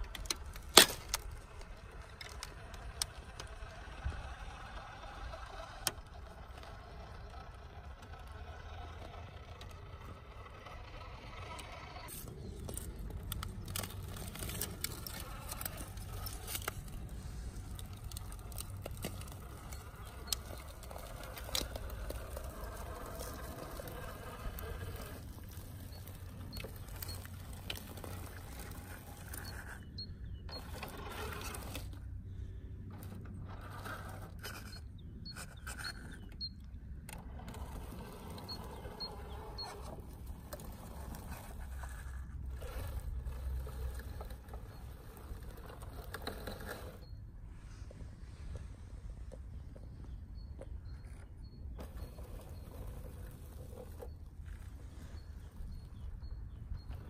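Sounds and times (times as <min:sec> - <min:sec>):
rc truck motor whine: 0:00.0 - 0:47.3, 0:50.5 - 0:57.0
crackles and scrapes under tyres: 0:00.0 - 0:57.0.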